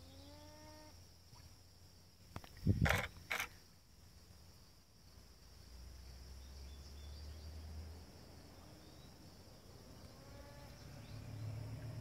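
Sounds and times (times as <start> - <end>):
high drone of insects: 0.0 - 12.0.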